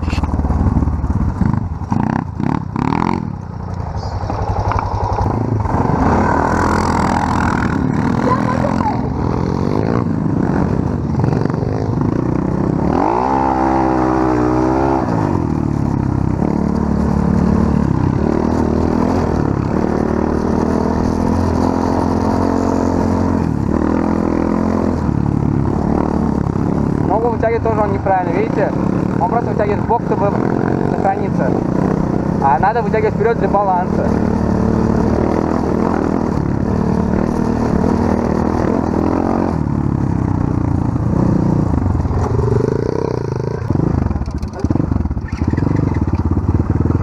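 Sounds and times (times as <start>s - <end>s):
engine revving: 0.0s - 3.4s, 4.0s - 47.0s
pit bike engines running: 0.0s - 47.0s.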